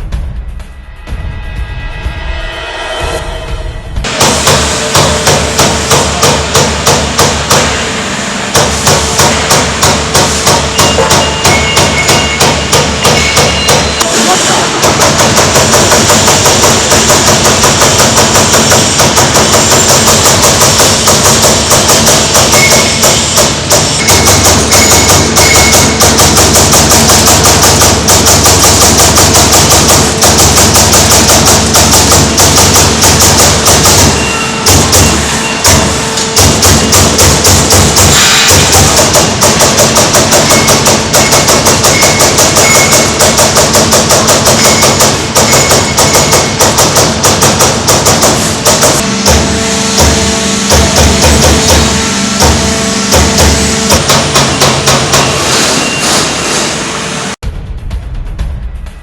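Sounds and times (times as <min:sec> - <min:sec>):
punching machine striking sheet metal: 0:04.0 - 0:57.4.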